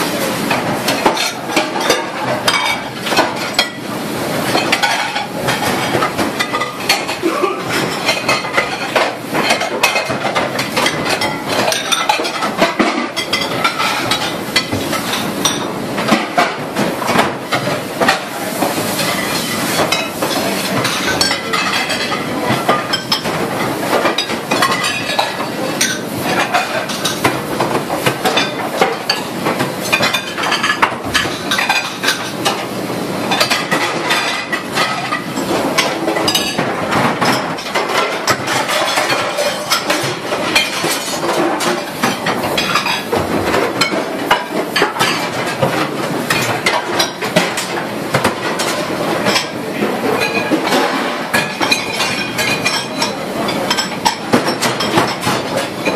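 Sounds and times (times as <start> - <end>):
metal pots and pans clattering: 0.0 - 55.9.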